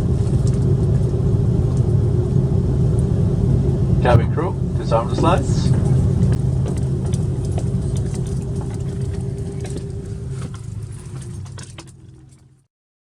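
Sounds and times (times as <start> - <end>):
aircraft cabin low rumble: 0.0 - 12.2.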